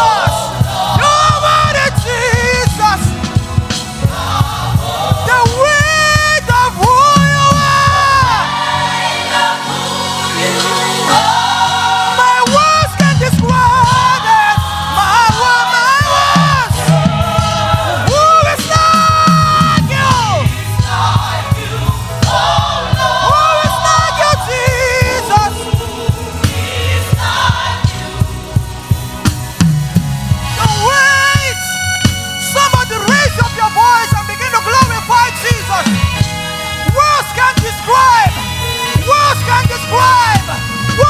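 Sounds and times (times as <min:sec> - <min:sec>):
lead vocalist singing: 0:00.0 - 0:29.6, 0:30.4 - 0:41.0
bass: 0:00.0 - 0:41.0
gospel choir singing: 0:00.0 - 0:41.0
steady drum beat: 0:00.0 - 0:41.0.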